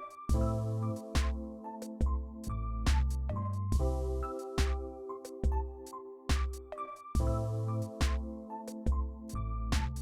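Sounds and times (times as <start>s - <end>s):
electronic music with synth and beat: 0.0s - 10.0s.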